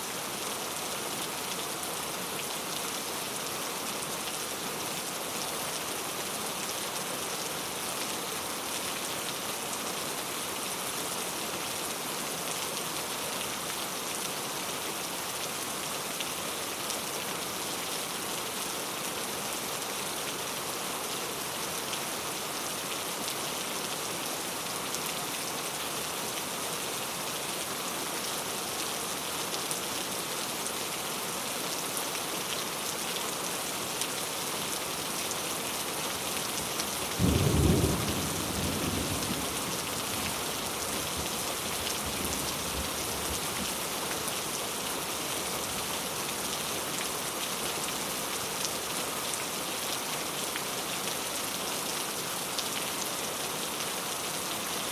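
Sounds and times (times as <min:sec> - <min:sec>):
heavy rain falling: 0:00.1 - 0:54.9.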